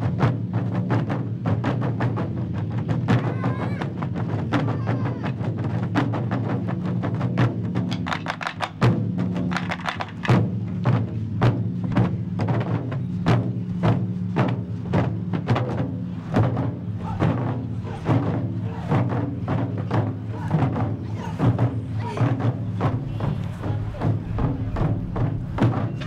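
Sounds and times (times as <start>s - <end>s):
taiko drums playing: 0.0s - 26.0s.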